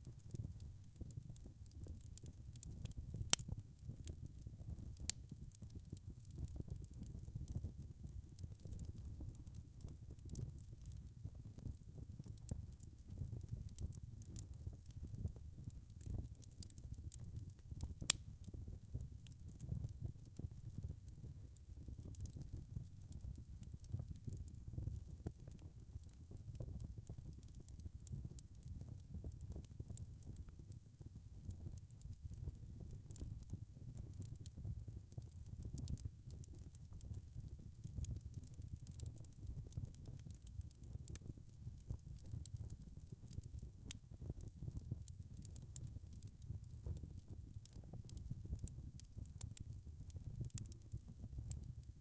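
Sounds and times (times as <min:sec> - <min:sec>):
wood fire crackling: 0:00.1 - 0:51.9.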